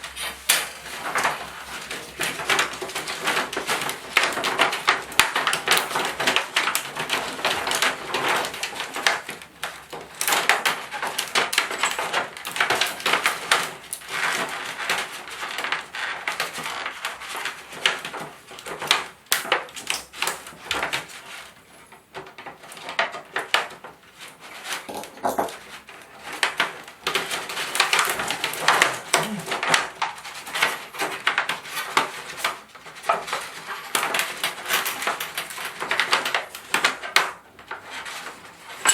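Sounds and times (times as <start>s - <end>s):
plastic and metal parts clattering: 0.0s - 38.9s.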